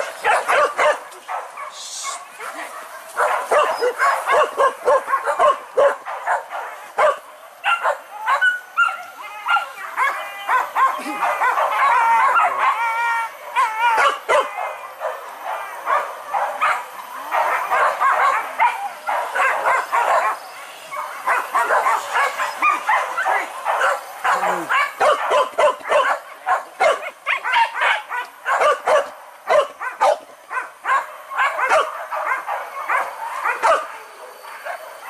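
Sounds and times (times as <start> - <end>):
dogs howling: 0.0 - 35.0
dogs yelping and barking: 0.0 - 35.0.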